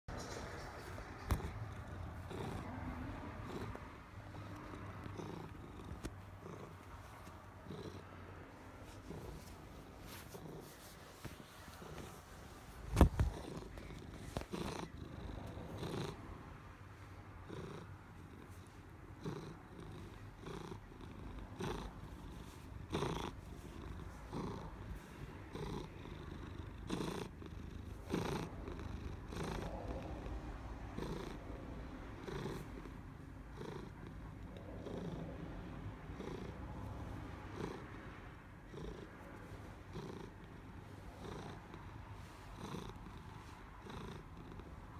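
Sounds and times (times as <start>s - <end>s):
cat purring: 0.1s - 44.9s.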